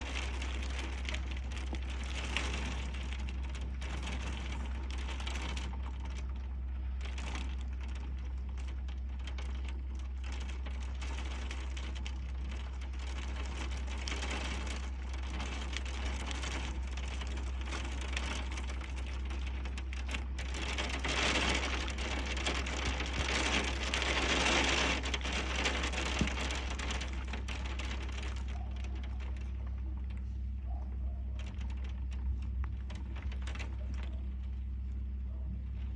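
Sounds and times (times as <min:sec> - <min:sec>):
hail and heavy rain pelting: 0:00.0 - 0:30.2.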